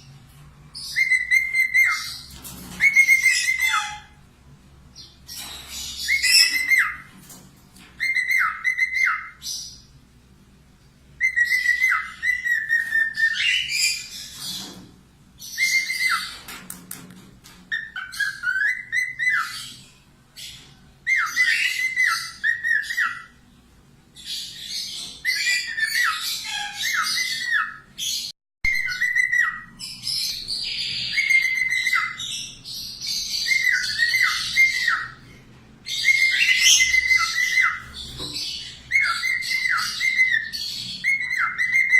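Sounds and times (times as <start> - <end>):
parakeet chirping: 0.8 - 4.3, 4.9 - 7.1, 8.0 - 9.9, 11.2 - 14.7, 15.4 - 16.4, 17.7 - 23.4, 24.2 - 41.9.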